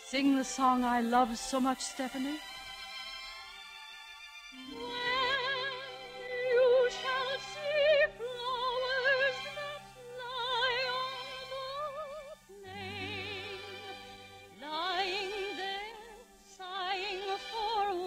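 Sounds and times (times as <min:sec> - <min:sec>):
woman singing operatic soprano: 0:00.0 - 0:02.4, 0:04.6 - 0:18.0
soft orchestral accompaniment: 0:00.0 - 0:18.0.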